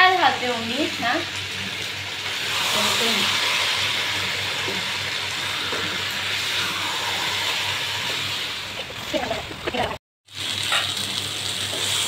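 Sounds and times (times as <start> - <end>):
food sizzling in a frying pan: 0.0 - 9.3, 10.3 - 12.0.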